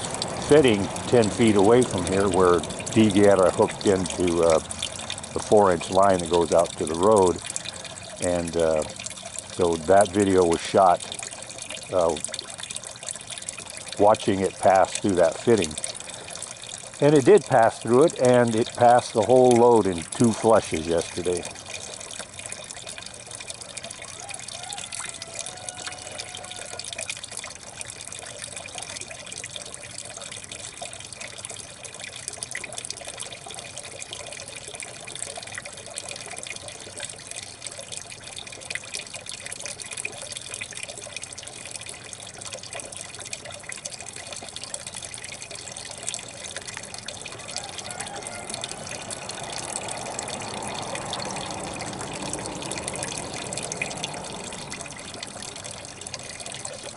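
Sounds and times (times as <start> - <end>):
water running into a bucket: 0.0 - 56.9.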